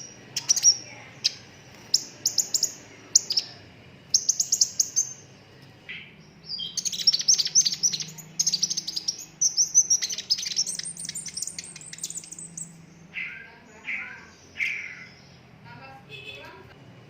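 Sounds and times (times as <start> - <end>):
bird singing high trills: 0.0 - 5.3, 5.9 - 15.5
bird chirps: 0.0 - 15.5.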